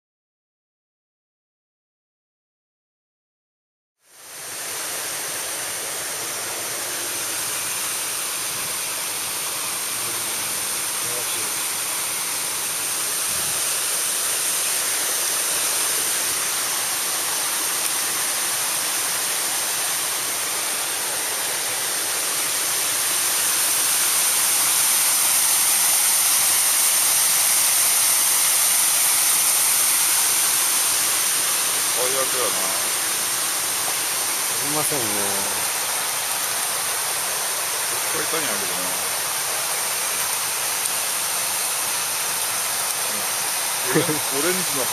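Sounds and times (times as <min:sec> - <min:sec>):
water rushing from small waterfall: 0:04.0 - 0:44.9.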